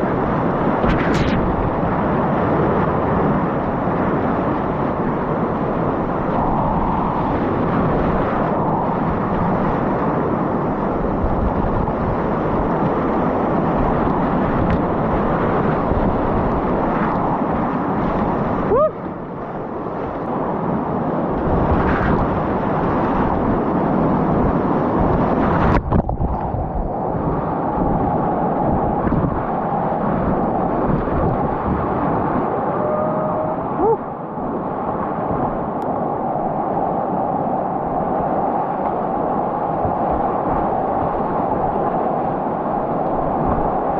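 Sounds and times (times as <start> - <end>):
whitewater roaring: 0.0 - 43.9.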